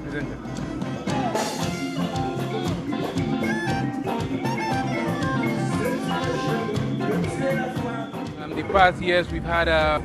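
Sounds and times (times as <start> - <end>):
drum kit beat: 0.0 - 10.0
upbeat band music with horns: 0.0 - 10.0.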